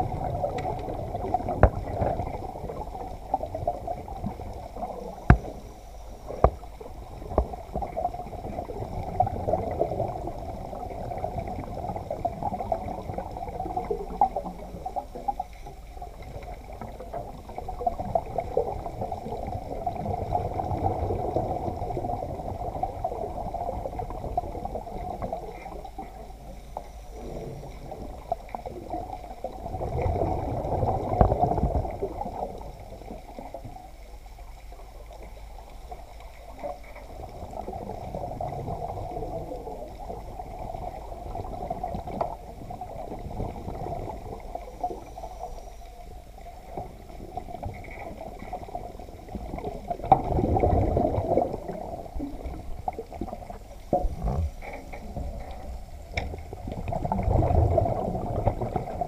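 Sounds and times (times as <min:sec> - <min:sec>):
muffled underwater wash: 0:00.0 - 0:59.0.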